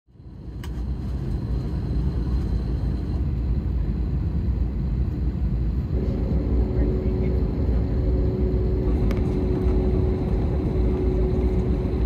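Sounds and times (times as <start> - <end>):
low aircraft cabin rumble: 0.1 - 12.0.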